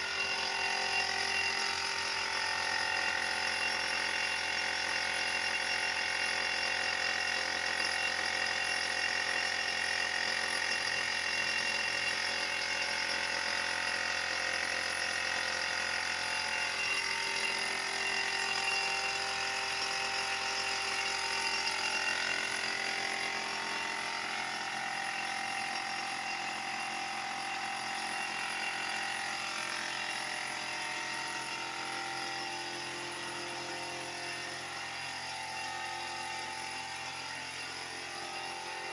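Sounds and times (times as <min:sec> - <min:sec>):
spray gun and compressor whine: 0:00.0 - 0:38.9.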